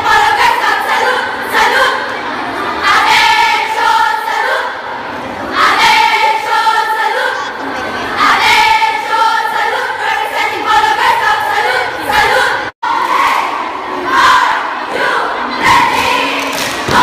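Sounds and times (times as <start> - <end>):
girls chanting a cheer: 0.0 - 17.0.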